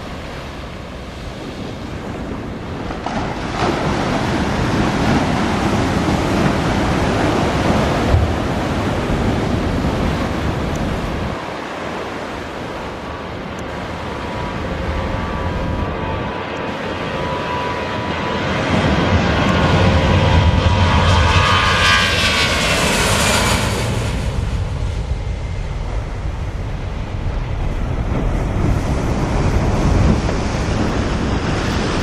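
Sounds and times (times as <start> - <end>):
jet engines roaring: 0.0 - 32.0
wind on microphone: 0.0 - 32.0.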